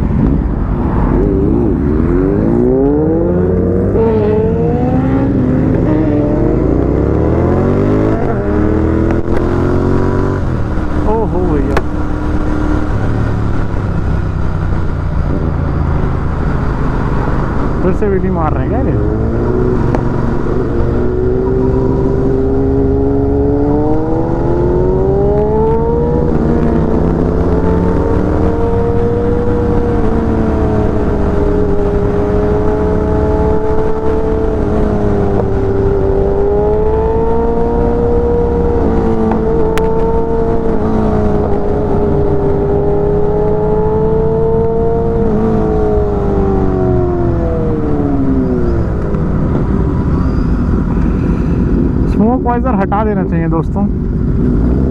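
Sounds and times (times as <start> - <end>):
wind rumble on microphone: 0.0 - 54.9.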